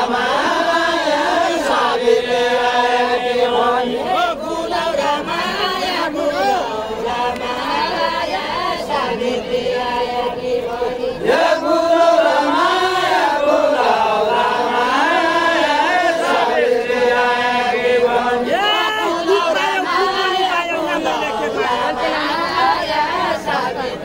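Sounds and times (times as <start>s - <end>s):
group singing without instruments: 0.0s - 24.0s.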